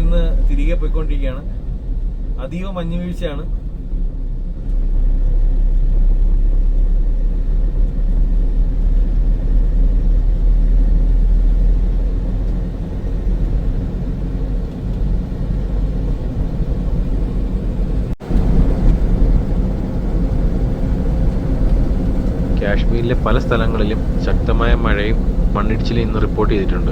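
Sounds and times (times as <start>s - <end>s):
vehicle driving rumble: 0.0s - 26.9s.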